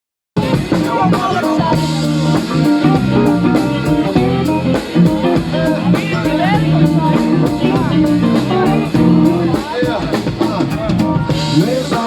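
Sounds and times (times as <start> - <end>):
bass: 0.4 - 12.0
drums: 0.4 - 12.0
guitar: 0.4 - 12.0.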